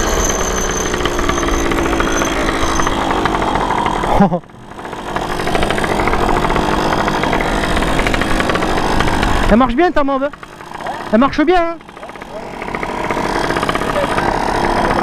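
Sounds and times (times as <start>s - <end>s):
two-stroke moped engine running: 0.0s - 15.0s.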